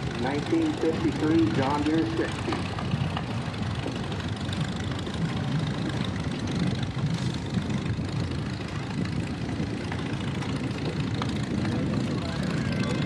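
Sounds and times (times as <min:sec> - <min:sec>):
tractor engine low rumble: 0:00.0 - 0:13.0.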